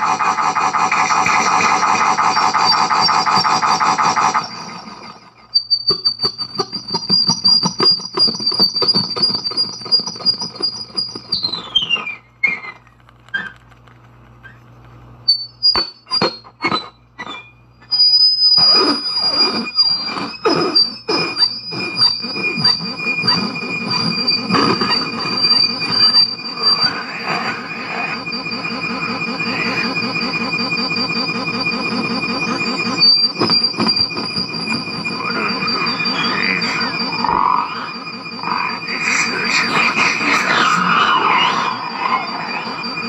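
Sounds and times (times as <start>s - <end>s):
high-pitched electronic squeal: 0.0s - 13.6s, 15.3s - 43.0s
dense electronic crackle: 0.0s - 14.6s, 17.4s - 43.0s.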